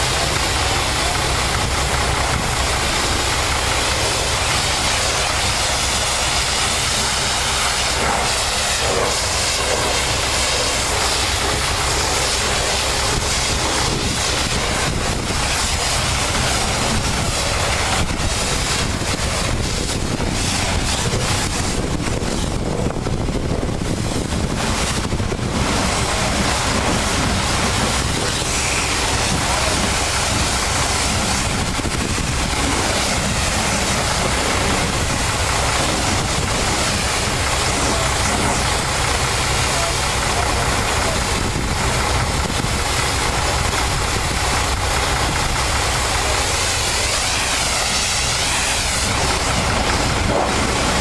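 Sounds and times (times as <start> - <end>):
pressure washer spray hissing: 0.0 - 22.8, 23.4 - 51.0
engine running: 0.0 - 51.0.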